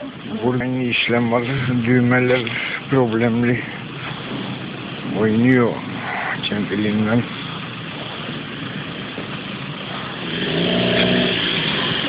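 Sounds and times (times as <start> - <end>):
steady hiss: 0.0 - 12.0
vehicle engine running: 0.0 - 12.0.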